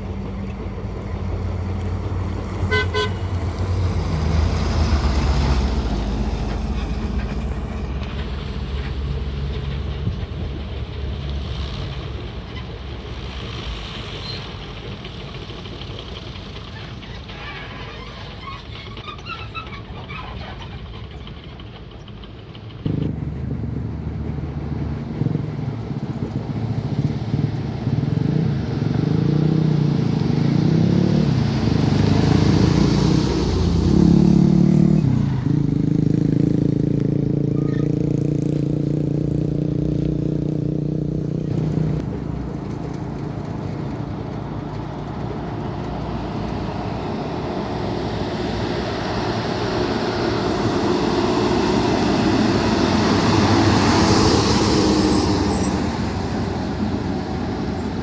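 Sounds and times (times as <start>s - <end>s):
motor vehicle engine running: 0.0s - 58.0s.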